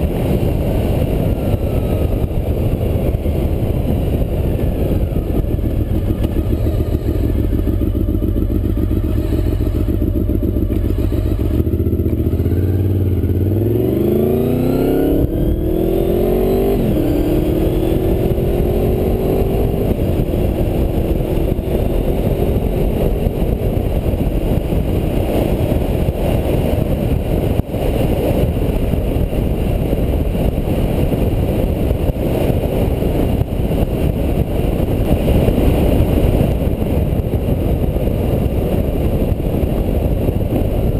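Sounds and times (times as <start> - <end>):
motorcycle engine accelerating: 0.0 - 40.9
wind noise at speed: 0.0 - 40.9.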